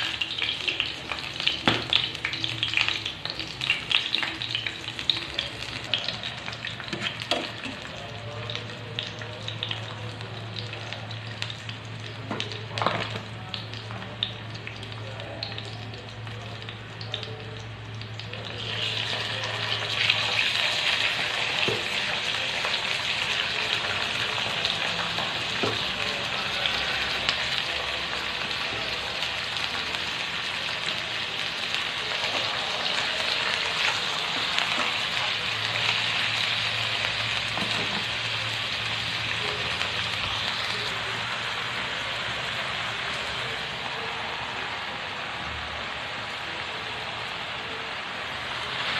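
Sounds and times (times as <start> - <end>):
chicken sizzling in hot oil: 0.0 - 48.9.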